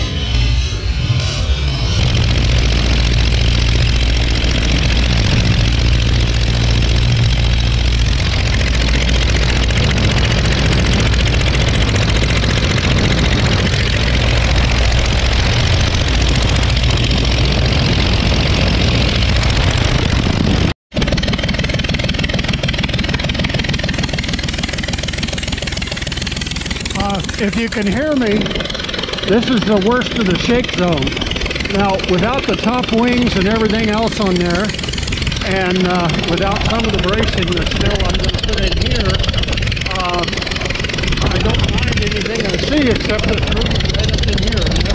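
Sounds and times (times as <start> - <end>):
radial aircraft engine running: 0.0 - 44.9.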